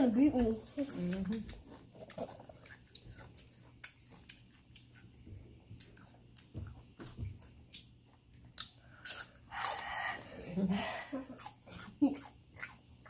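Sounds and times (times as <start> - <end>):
wet chewing sounds: 0.4 - 9.9, 11.3 - 13.0.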